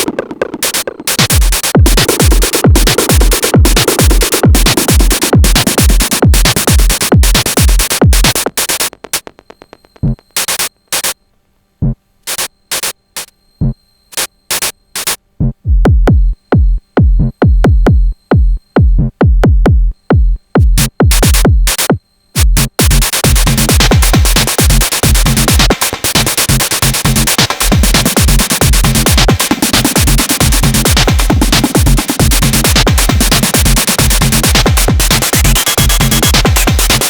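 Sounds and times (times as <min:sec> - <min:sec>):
kick drum: 0:00.0 - 0:11.1, 0:15.4 - 0:37.0
drum machine techno beat: 0:00.0 - 0:11.2, 0:11.8 - 0:37.0
short percussion hits and clicks: 0:00.0 - 0:11.2, 0:11.8 - 0:15.2, 0:20.6 - 0:37.0.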